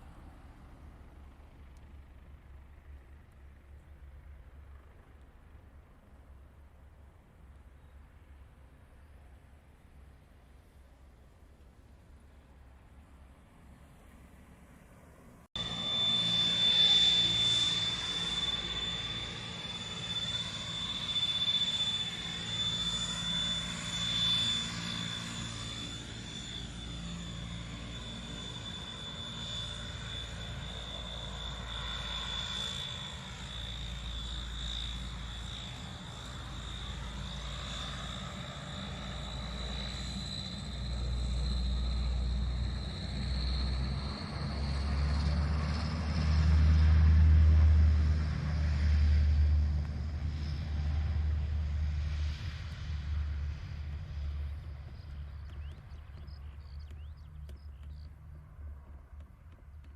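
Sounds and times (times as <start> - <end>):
low propeller drone: 0.0 - 59.9
turboprop engine high whine: 0.0 - 59.9.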